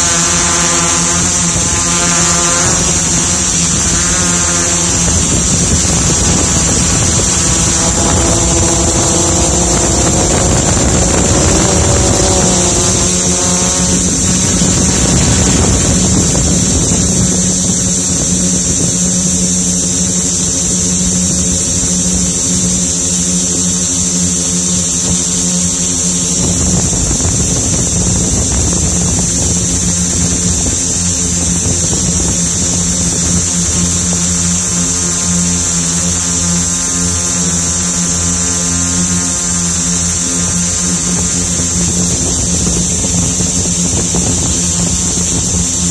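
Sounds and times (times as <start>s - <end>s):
drone propellers whirring: 0.0s - 45.9s.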